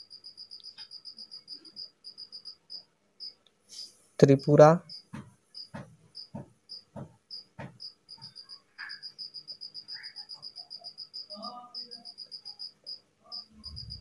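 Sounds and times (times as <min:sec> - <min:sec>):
cricket chirping: 0:00.0 - 0:03.4, 0:04.9 - 0:14.0.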